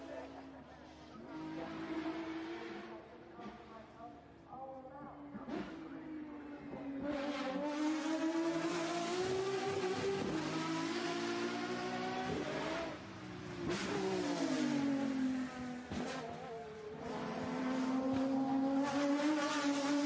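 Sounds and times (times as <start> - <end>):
car engine accelerating at high revs: 1.0 - 3.7, 5.3 - 20.0.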